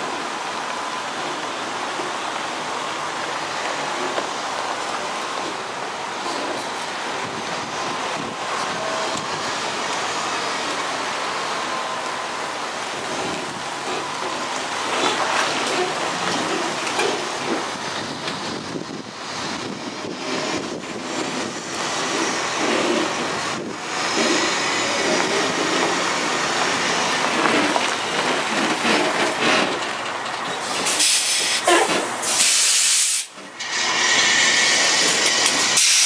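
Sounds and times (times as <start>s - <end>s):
diesel engine running: 0.0s - 36.0s
truck reversing over gravel: 0.0s - 36.0s.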